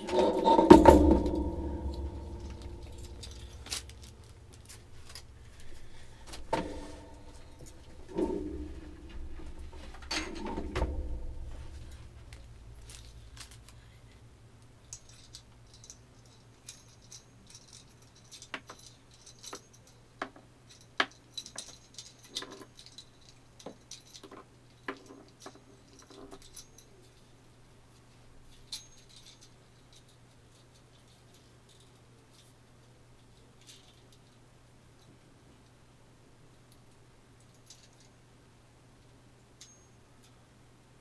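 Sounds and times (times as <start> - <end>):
light metal clicks and rattles: 0.0 - 27.3, 28.0 - 34.4.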